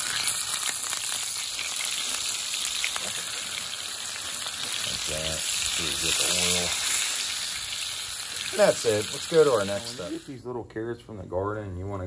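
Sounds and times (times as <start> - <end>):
meat sizzling in hot oil: 0.0 - 10.4.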